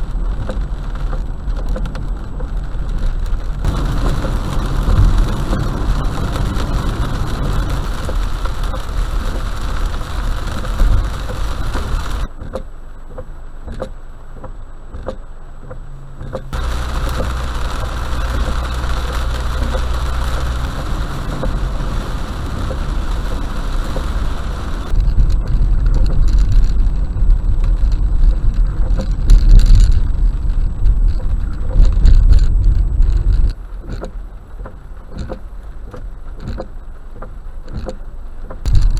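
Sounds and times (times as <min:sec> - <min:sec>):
rain on a car: 0:00.0 - 0:38.9
road and tyre noise in car: 0:00.0 - 0:38.9.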